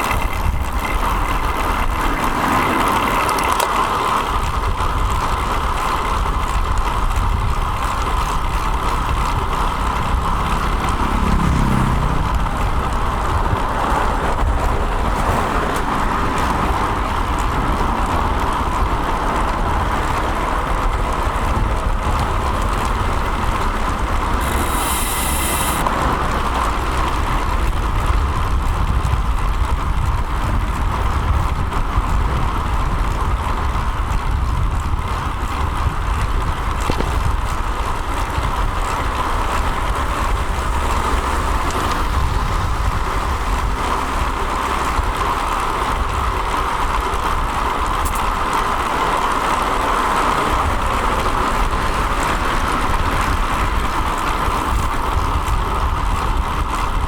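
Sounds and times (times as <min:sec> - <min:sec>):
passing traffic: 0:00.0 - 0:57.0
rolling road noise: 0:00.0 - 0:57.0.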